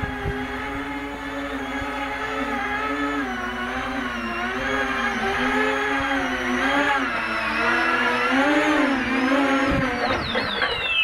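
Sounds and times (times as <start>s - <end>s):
drone propellers buzzing whine: 0.0s - 11.0s.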